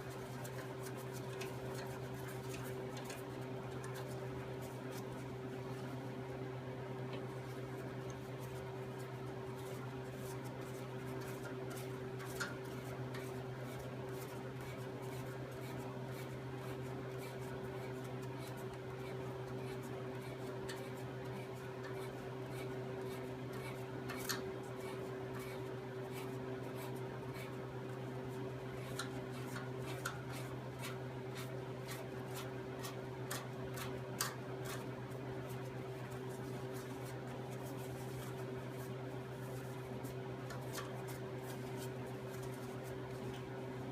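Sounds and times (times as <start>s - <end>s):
steady background hum: 0.0s - 43.9s.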